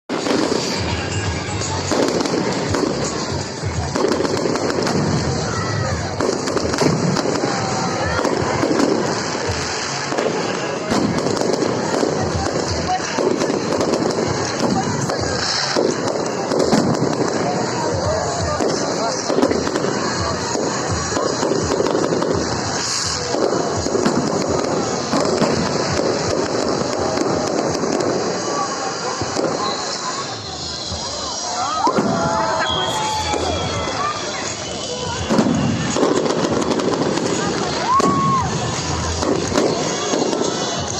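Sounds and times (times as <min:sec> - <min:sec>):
firework shells booming: 0:00.1 - 0:30.8, 0:31.8 - 0:40.9
firework crackling: 0:00.1 - 0:40.9.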